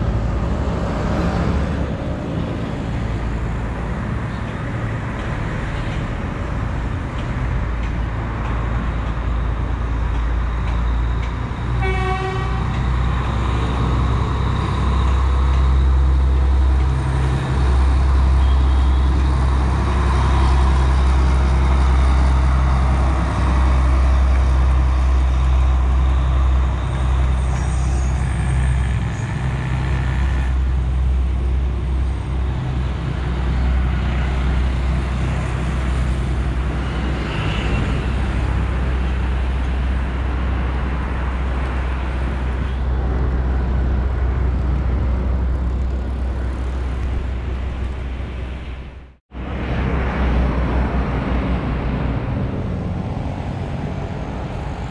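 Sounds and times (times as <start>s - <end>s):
diesel train rumbling: 0.0s - 54.9s
noisy rumbling background: 0.0s - 54.9s.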